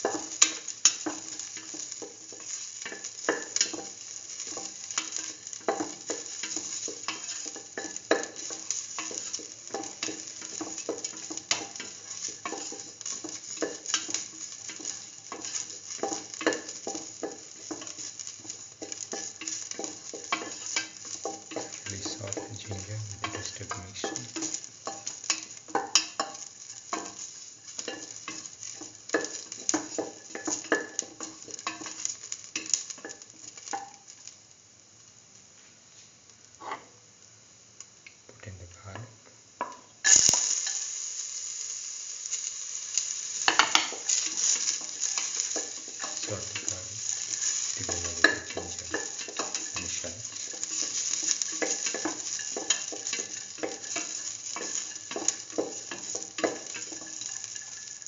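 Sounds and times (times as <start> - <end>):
food sizzling in hot oil: 0.0 - 58.0.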